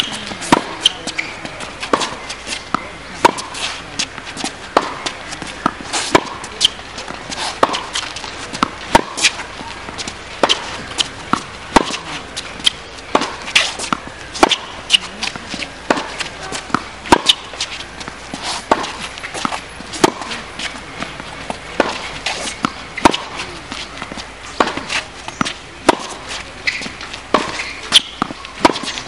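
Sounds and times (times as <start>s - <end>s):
ball bouncing on hard court: 0.0s - 29.0s
rackets striking tennis ball: 0.0s - 29.0s.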